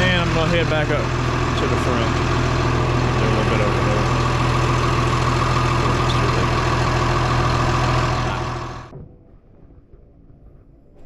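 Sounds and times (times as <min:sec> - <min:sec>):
bulldozer diesel engine droning: 0:00.0 - 0:10.2.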